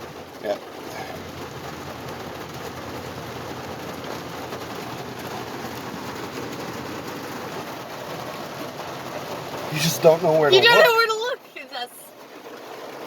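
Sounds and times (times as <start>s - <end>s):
heavy rain on a car roof: 0.0s - 13.0s.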